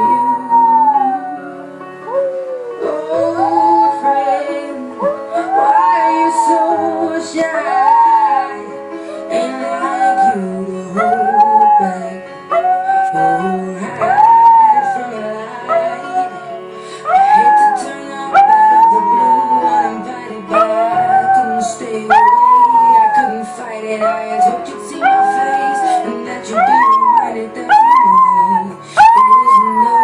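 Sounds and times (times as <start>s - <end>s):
woman singing ballad: 0.0s - 1.7s, 2.4s - 30.0s
dog howling: 0.0s - 8.6s, 9.4s - 23.4s, 24.0s - 30.0s.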